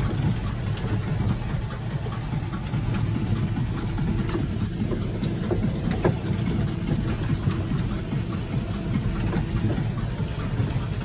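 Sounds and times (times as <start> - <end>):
light rattles and clicks: 0.0 - 11.0
tractor diesel engine running: 0.0 - 11.0.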